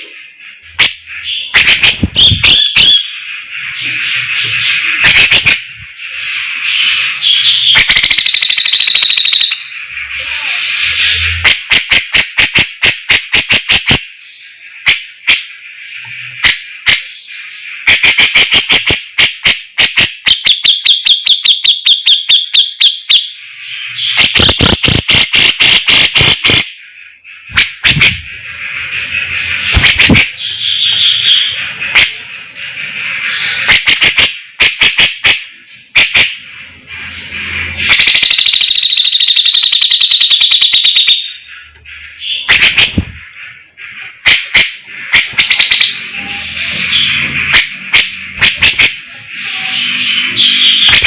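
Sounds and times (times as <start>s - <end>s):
bulbul singing: 0.0s - 13.1s, 20.2s - 34.6s, 35.5s - 51.0s.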